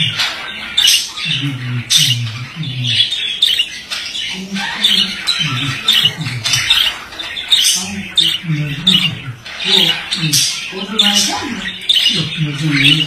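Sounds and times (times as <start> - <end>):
budgerigar chirps and squawks: 0.0 - 13.0
budgerigar grumbling chatter: 0.0 - 13.0.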